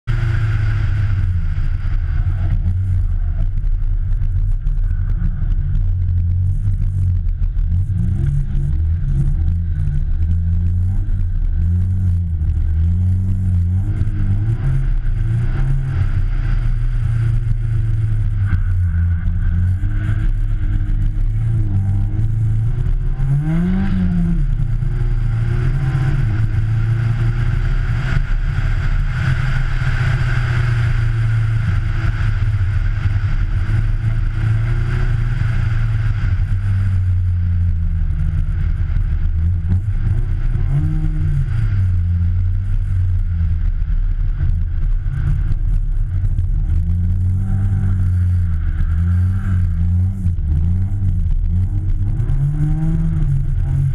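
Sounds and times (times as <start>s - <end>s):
rally car engine revving: 0.0s - 53.9s
steady low rumble: 0.0s - 53.9s.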